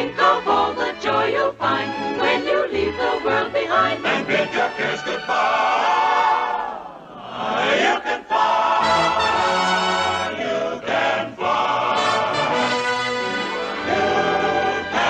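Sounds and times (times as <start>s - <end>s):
choir and orchestra music: 0.0s - 15.0s.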